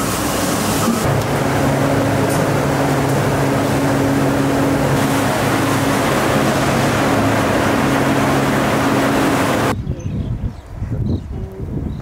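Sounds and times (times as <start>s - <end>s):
machinery humming: 0.0s - 9.8s.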